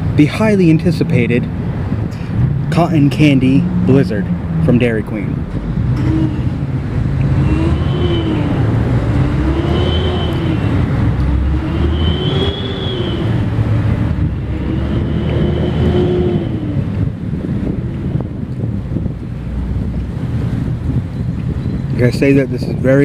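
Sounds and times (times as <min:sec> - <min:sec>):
engine droning hum: 0:00.0 - 0:21.0
wind noise on microphone: 0:00.0 - 0:23.0.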